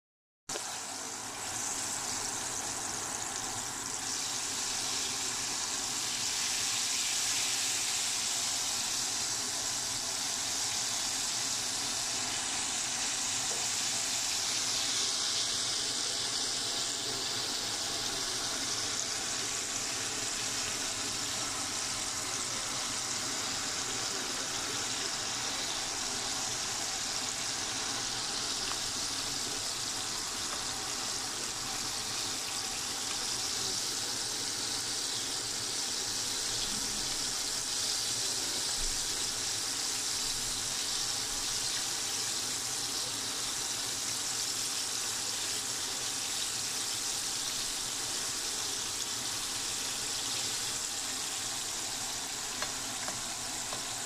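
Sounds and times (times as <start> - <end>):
chicken deep-frying in oil: 0.5 - 54.0.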